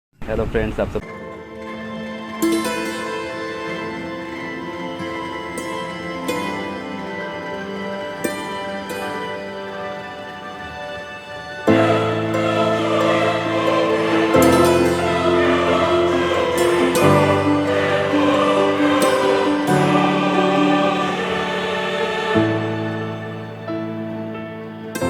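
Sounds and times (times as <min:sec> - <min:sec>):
music with choir-like voices: 0:01.0 - 0:25.0.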